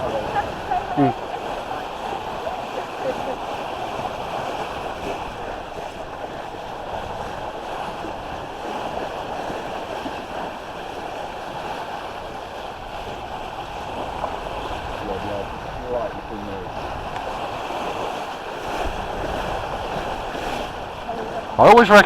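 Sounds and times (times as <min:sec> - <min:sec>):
wind on microphone: 0:00.0 - 0:21.6
water washing against hull: 0:00.0 - 0:22.0.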